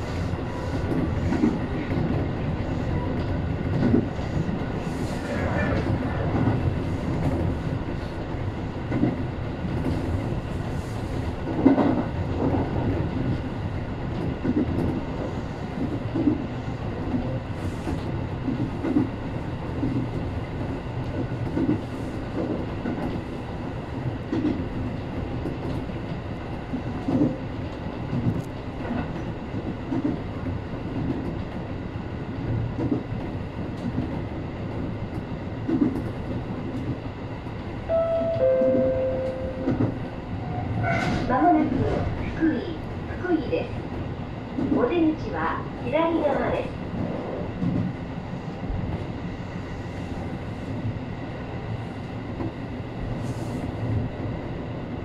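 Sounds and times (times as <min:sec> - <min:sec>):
clickety-clack of rail joints: 0:00.0 - 0:55.0
train wheels rumbling: 0:00.0 - 0:55.0.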